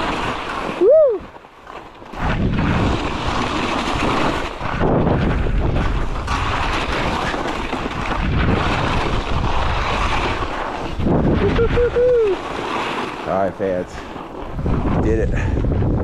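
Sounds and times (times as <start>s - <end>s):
skis scraping over icy snow: 0.0s - 16.0s
wind rushing over microphone: 2.1s - 16.0s.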